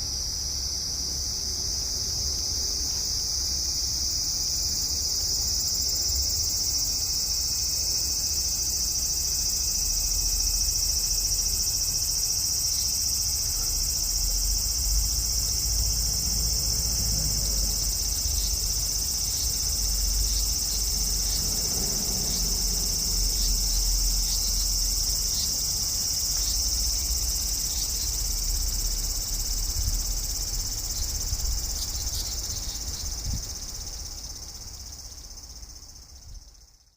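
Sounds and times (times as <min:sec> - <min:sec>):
cicada buzzing: 0:00.0 - 0:36.9.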